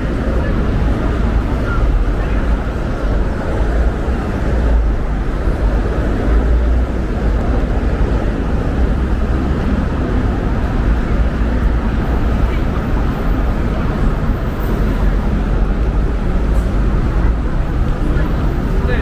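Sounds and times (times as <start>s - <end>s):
road traffic rumble: 0.0s - 19.0s
street noise: 0.0s - 19.0s.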